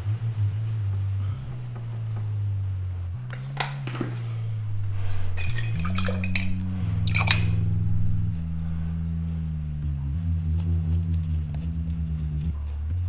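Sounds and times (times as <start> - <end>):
music of low held notes: 0.0 - 13.0.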